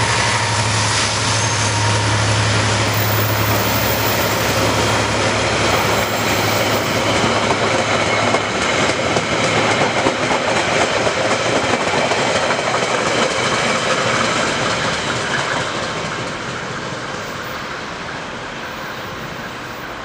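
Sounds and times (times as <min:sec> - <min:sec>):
train carriages rolling on rails: 0:00.0 - 0:20.0.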